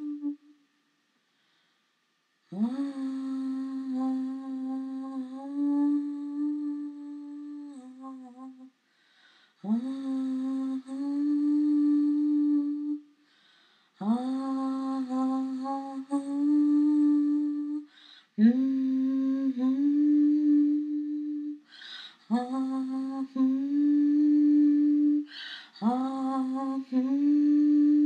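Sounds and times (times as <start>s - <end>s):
person humming: 0.0s - 0.6s, 2.5s - 8.7s, 9.6s - 13.1s, 14.0s - 21.7s, 22.3s - 28.0s.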